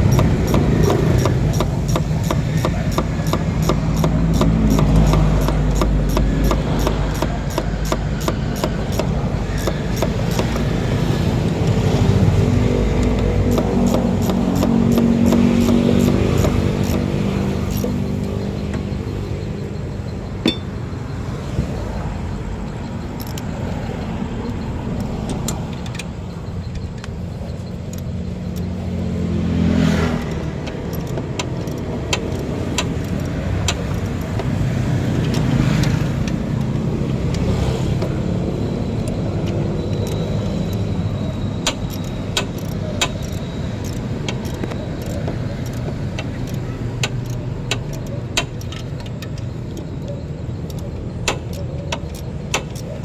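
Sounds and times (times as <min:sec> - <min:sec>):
sharp clicks and clinks: 0:00.0 - 0:53.0
vehicle engine running: 0:00.0 - 0:53.0.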